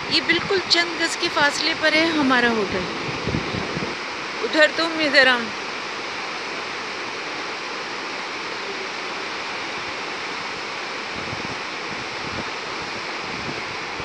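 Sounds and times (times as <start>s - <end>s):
river rapids rushing over rocks: 0.0s - 14.0s.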